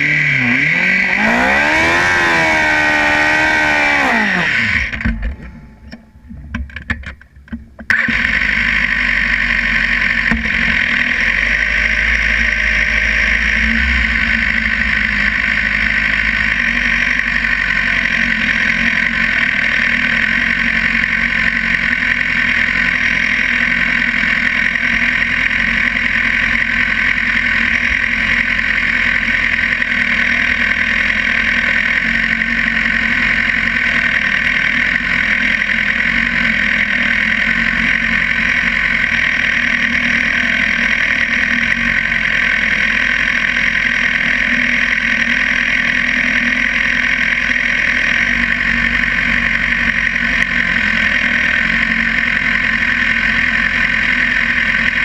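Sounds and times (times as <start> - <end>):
motorcycle engine revving: 0.0 - 6.5, 7.9 - 55.0
motorcycle engine idling: 0.0 - 55.0.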